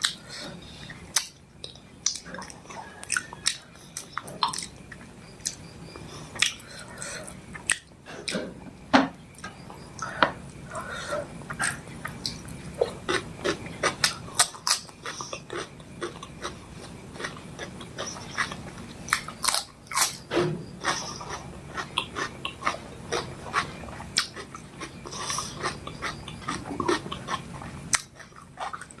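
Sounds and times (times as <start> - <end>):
person chewing and eating: 0.0 - 8.4, 9.4 - 29.0.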